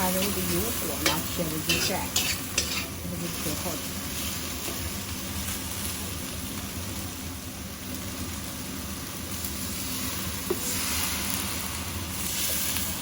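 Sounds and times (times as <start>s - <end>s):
eggplant frying in a wok: 0.0s - 13.0s.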